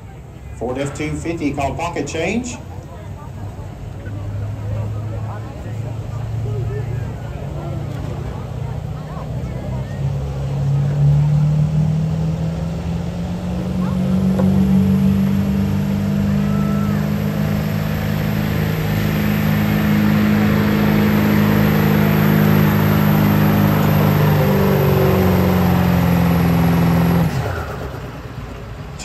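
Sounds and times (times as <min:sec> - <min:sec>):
truck engine running hard: 0:00.0 - 0:29.0.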